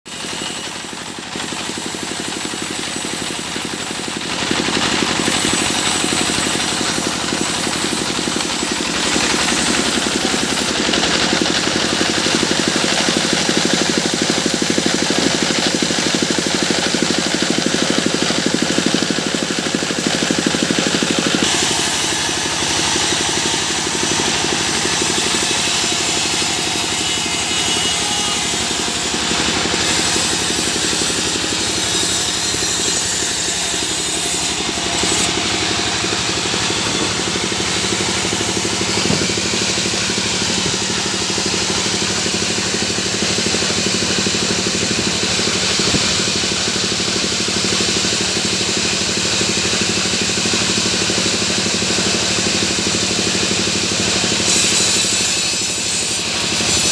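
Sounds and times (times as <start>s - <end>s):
sawmill machinery hum: 0.0s - 56.9s.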